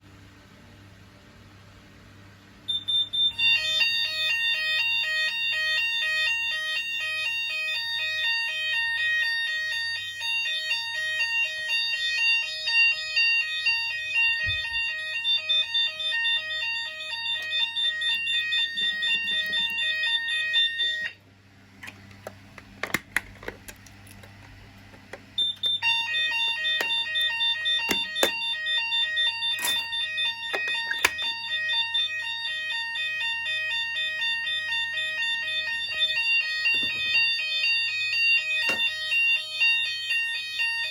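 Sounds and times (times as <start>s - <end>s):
fire alarm two-tone signal: 2.7s - 21.2s, 25.4s - 40.9s.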